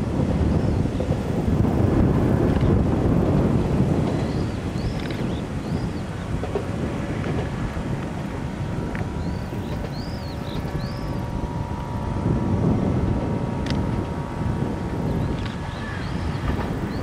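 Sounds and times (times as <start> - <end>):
distant diesel railcar drone: 0.0 - 17.0
wind buffeting microphone: 0.0 - 17.0.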